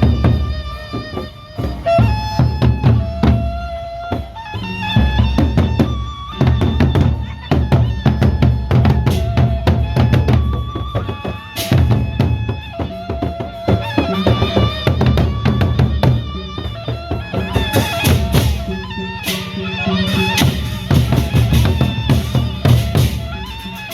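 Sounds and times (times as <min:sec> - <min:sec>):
heavy drumming: 0:00.0 - 0:23.9
melody line over drums: 0:00.0 - 0:23.9.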